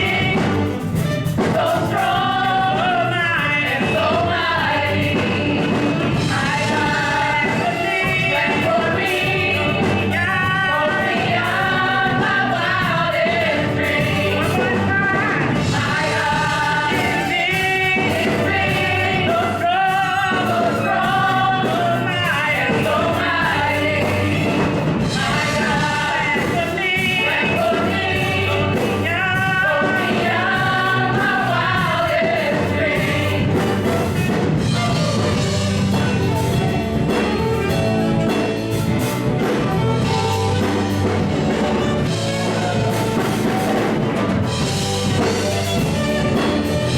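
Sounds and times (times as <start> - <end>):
congregation singing praise song: 0.0 - 46.9
live band playing: 0.0 - 46.9.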